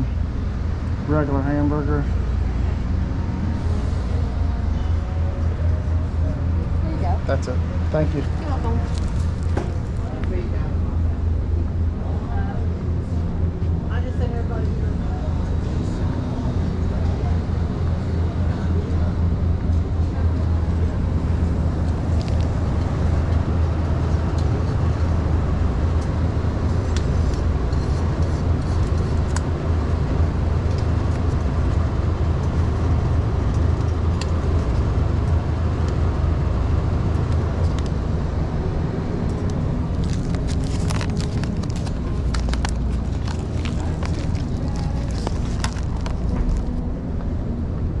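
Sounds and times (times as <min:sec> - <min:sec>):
truck engine rumble inside cab: 0:00.0 - 0:48.0.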